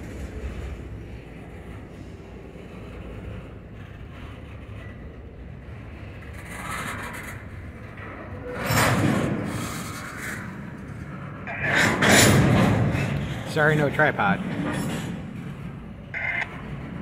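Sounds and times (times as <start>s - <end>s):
train scraping noise: 0.0s - 17.0s
train wheels rumbling on rail: 0.0s - 17.0s.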